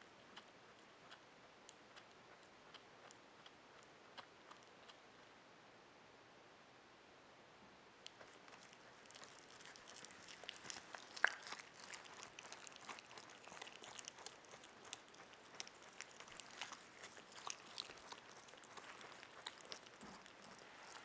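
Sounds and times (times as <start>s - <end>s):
animal chewing with soft clicks: 0.0s - 5.4s, 8.0s - 21.0s.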